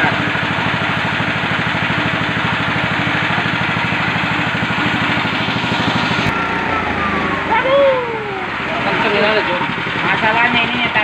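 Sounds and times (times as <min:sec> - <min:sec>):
rice mill running: 0:00.0 - 0:11.0.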